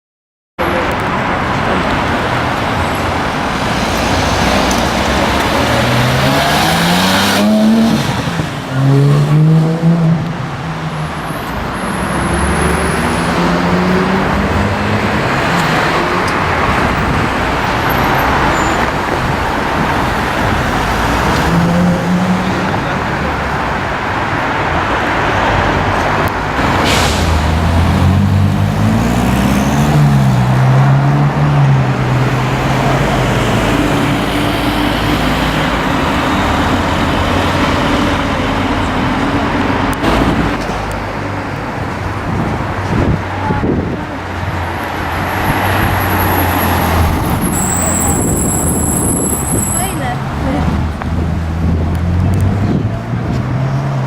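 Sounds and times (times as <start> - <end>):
street traffic: 0.6 - 54.0.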